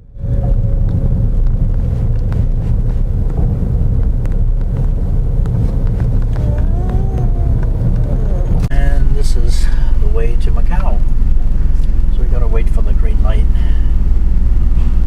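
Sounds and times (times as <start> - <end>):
car rumbling: 0.0 - 15.0
wind buffeting microphone: 0.0 - 15.0.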